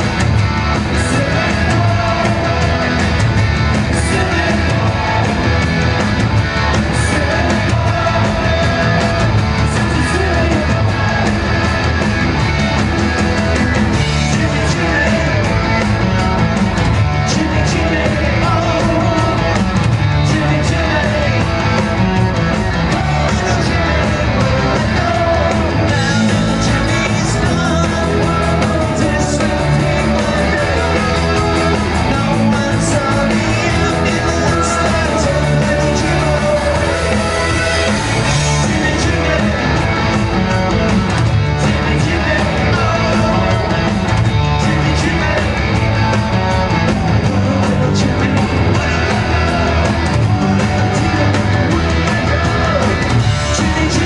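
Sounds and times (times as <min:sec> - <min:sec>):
lead singer: 0:00.0 - 0:54.0
live punk rock band: 0:00.0 - 0:54.0.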